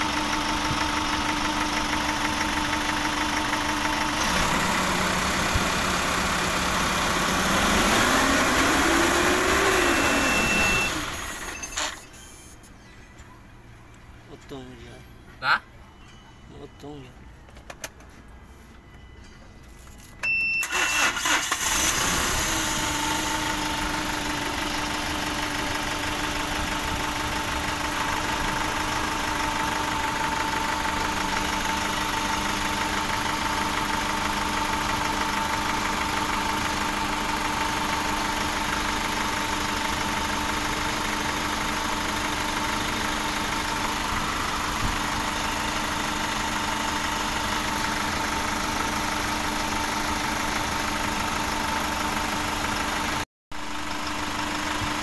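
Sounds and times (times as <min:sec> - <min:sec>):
diesel engine starting and idling: 0:00.0 - 0:12.8, 0:19.7 - 0:55.0.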